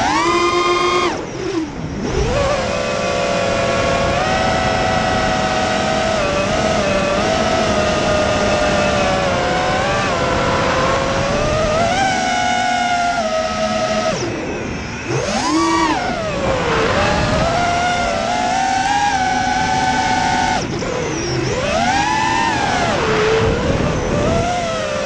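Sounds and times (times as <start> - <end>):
drone motors and propellers whining: 0.0 - 25.0.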